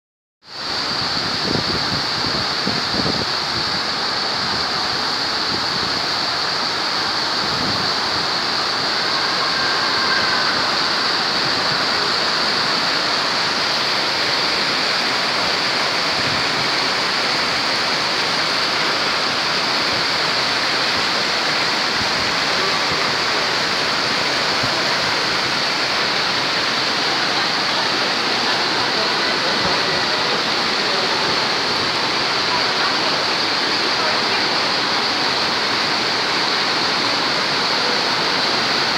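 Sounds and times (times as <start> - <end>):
waterfall rushing: 0.5 - 38.9.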